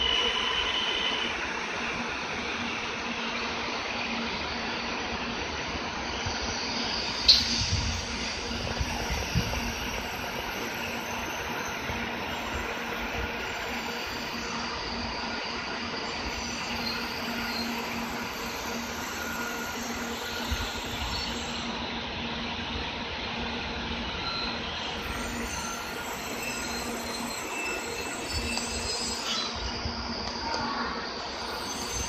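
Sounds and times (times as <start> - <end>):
thin whining tones: 0.0 - 32.0
train wheels rushing on rail: 0.0 - 32.0.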